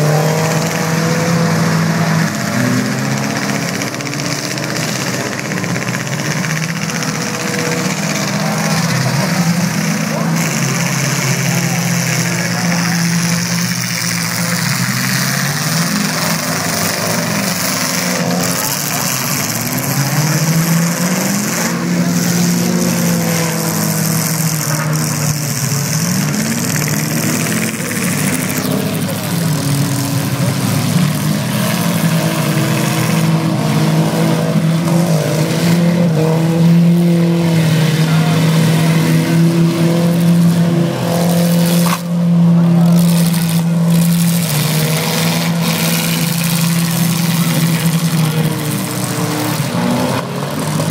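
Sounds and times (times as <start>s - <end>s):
car engines revving: 0.0s - 50.9s.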